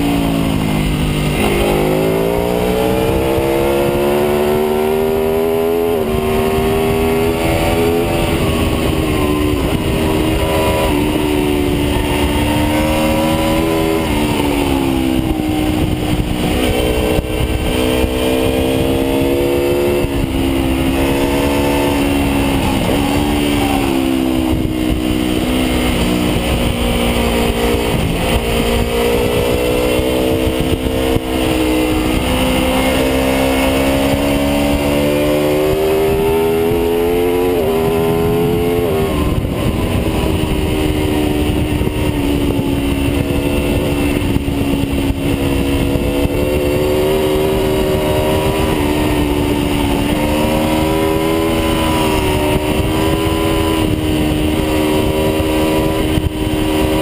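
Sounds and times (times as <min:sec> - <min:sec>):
motorcycle engine at speed: 0:00.0 - 0:57.0
wind rush: 0:00.0 - 0:57.0.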